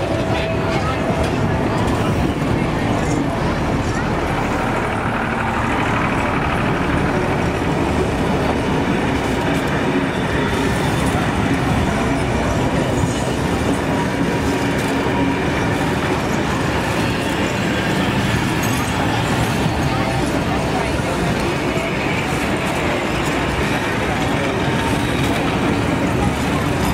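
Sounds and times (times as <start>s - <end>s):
steel wheels rumbling on rails: 0.0s - 26.9s.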